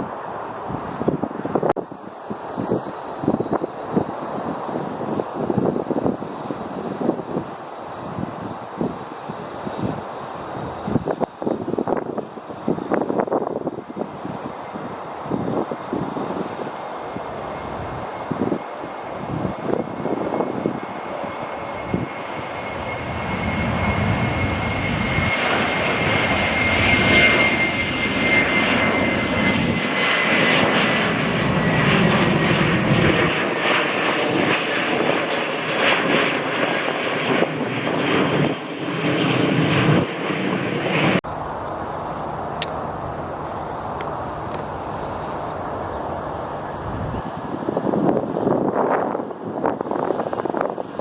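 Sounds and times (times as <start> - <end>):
airliner engines rumbling: 0.0 - 51.0.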